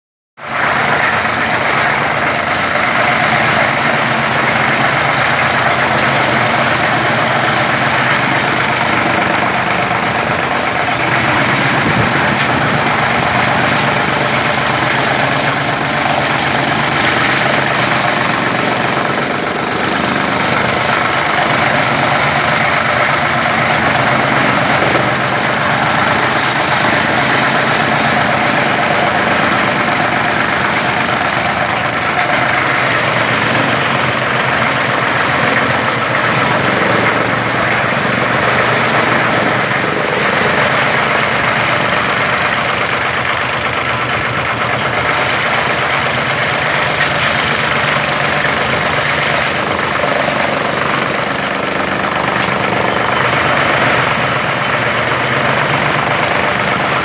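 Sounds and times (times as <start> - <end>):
chaff cutter chopping stalks: 0.5 - 57.0.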